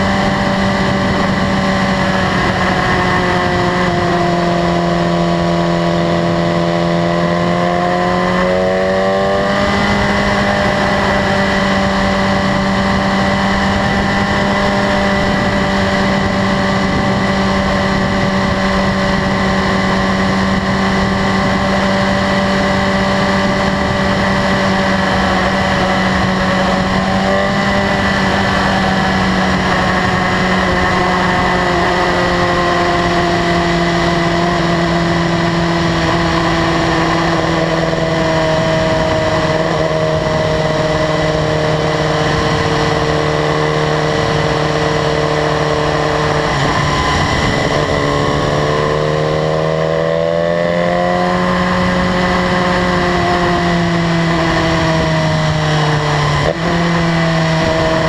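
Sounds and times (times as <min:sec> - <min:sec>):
wind rushing: 0:00.0 - 0:50.0
motorcycle engine running: 0:00.0 - 0:58.0.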